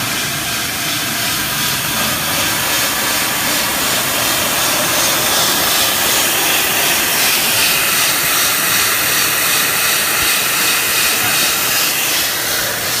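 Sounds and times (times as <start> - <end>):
sanding machine hissing: 0.0 - 13.0.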